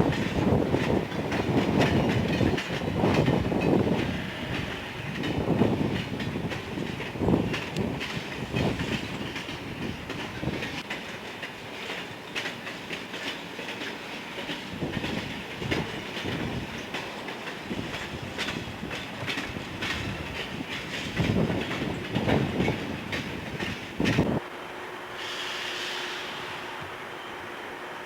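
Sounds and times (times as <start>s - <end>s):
railroad cars rumbling past: 0.0s - 28.0s.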